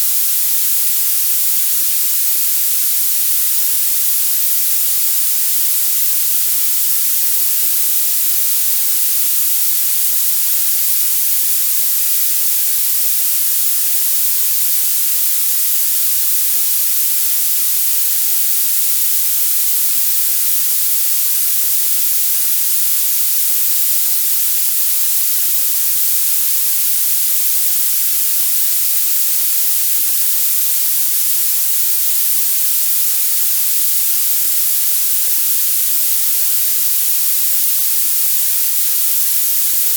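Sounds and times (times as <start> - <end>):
high-pitched steady hiss: 0.0 - 39.9.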